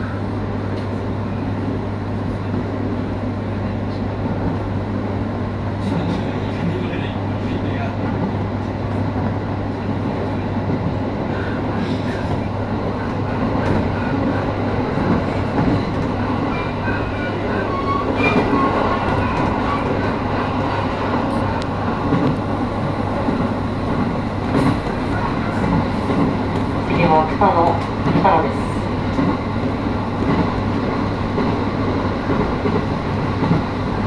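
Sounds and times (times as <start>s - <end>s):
electric train rumble and hum: 0.0s - 34.0s
rail clicks: 5.8s - 34.0s.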